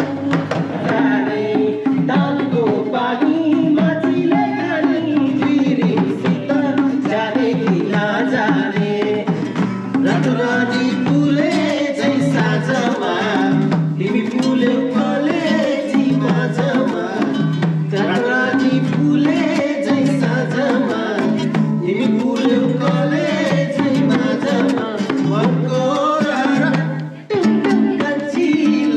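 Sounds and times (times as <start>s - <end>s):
song with plucked strings: 0.0s - 28.9s.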